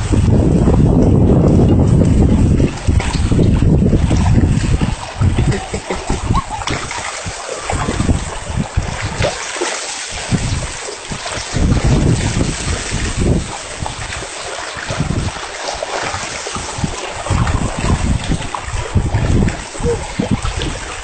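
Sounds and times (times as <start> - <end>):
splashing water rushing: 0.0 - 21.0
wind buffeting microphone: 0.0 - 21.0.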